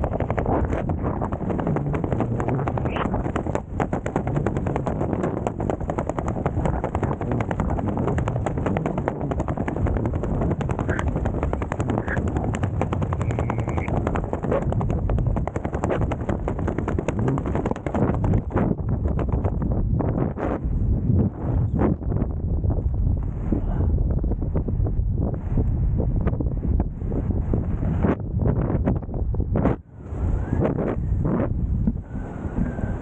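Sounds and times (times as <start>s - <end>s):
fabric flapping in wind: 0.0s - 33.0s
wind rushing over microphone: 0.0s - 33.0s.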